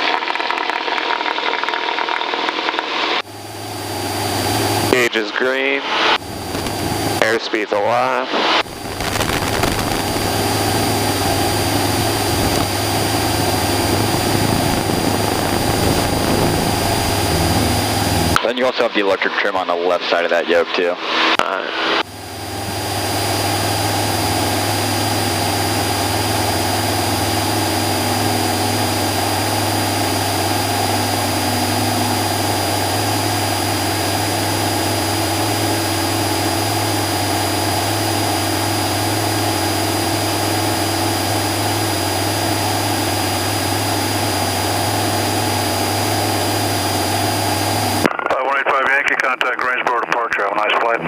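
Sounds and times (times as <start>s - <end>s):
aircraft engine and propeller droning: 0.0s - 48.1s.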